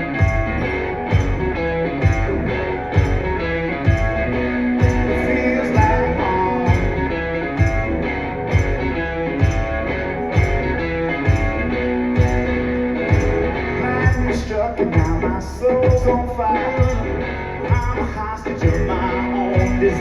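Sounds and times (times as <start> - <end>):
guitar: 0.0 - 20.0
live band playing: 0.0 - 20.0
steady drum beat: 0.0 - 20.0.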